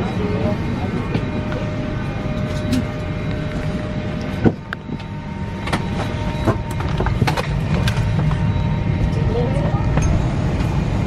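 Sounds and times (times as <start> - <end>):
low aircraft cabin hum: 0.0 - 11.0.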